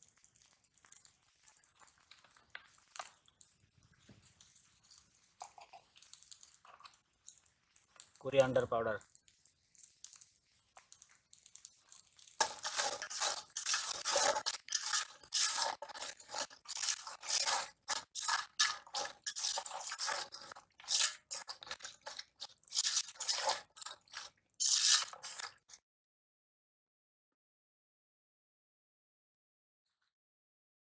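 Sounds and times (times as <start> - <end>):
wet squelching and scraping: 0.2 - 25.8.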